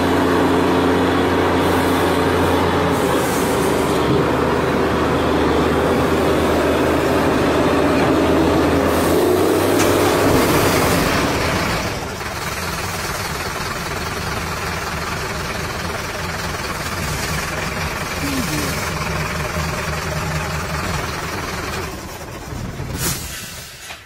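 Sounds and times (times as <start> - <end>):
truck engine running: 0.0 - 23.8.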